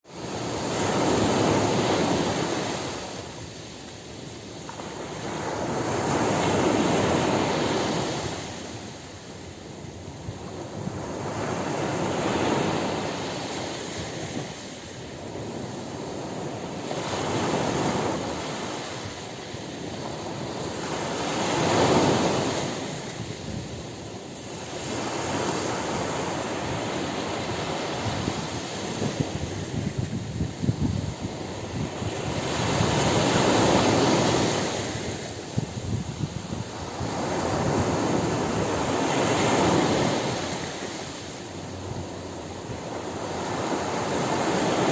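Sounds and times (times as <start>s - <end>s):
ocean surf breaking on beach: 0.0s - 44.9s.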